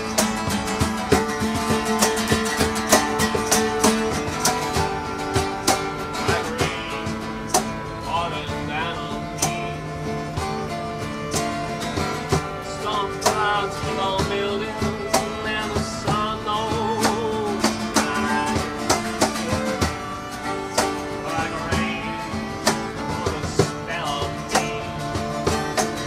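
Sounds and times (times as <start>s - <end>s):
acoustic guitar strumming: 0.0s - 26.0s
fiddle playing folk melody: 0.0s - 26.0s.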